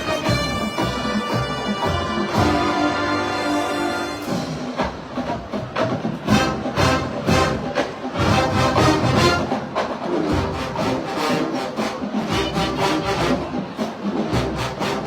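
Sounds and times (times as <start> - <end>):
drumline beat: 0.0 - 15.0
marching band brass: 0.0 - 15.0.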